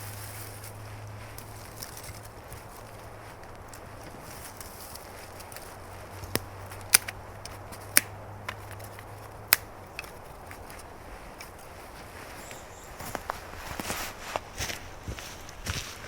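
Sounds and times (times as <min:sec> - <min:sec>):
dry wood cracking: 0:00.0 - 0:15.8.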